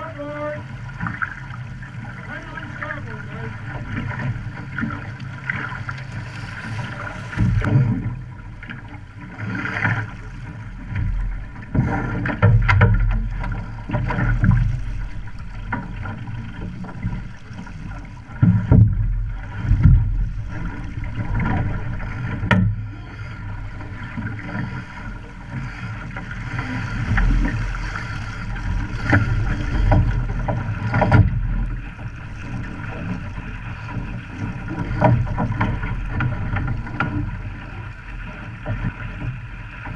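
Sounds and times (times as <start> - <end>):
water rushing against boat hull: 0.0 - 39.9
water splashing: 0.0 - 39.9.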